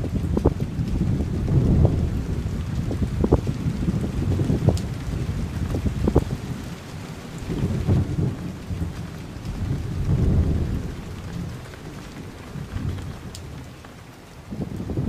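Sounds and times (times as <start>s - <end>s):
low rumbling: 0.0s - 6.7s, 7.4s - 13.8s
rain hiss: 0.0s - 15.0s.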